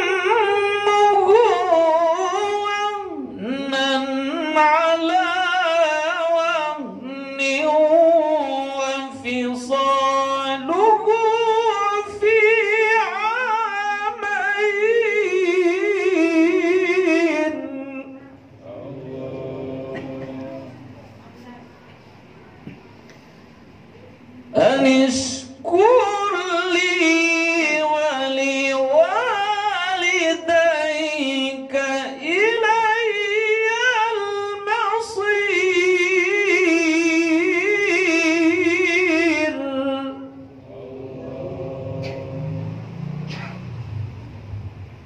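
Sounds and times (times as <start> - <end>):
man reciting melodically: 0.0 - 21.0, 24.5 - 43.1.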